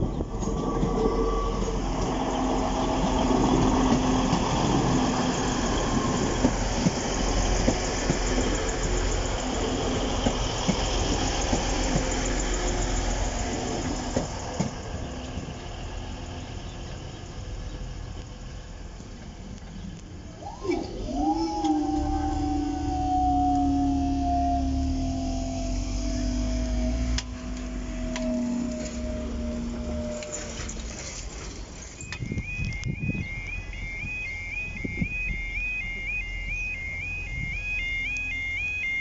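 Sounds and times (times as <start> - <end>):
diesel train engine rumble: 0.0 - 39.0.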